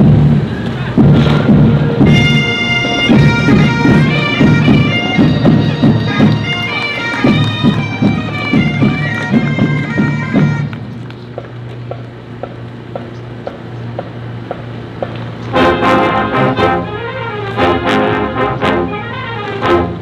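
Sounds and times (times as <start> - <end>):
steady drumbeat: 0.0 - 18.9
bagpipes playing marching tune: 0.1 - 11.1, 14.5 - 20.0.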